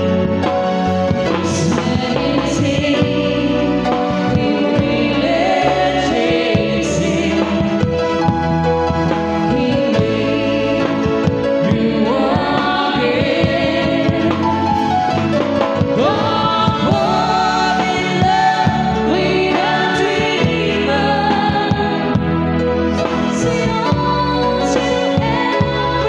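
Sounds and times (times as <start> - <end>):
live band playing ballad: 0.0 - 26.0
man and woman singing duet: 1.4 - 8.2, 9.5 - 14.7, 15.8 - 22.4, 23.1 - 26.0.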